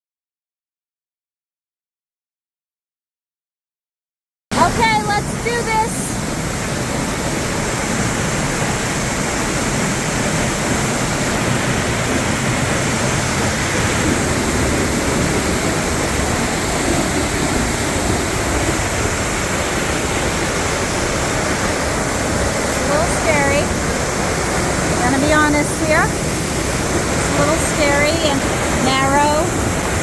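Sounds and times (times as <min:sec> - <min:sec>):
waterfall rushing: 0:04.5 - 0:30.0.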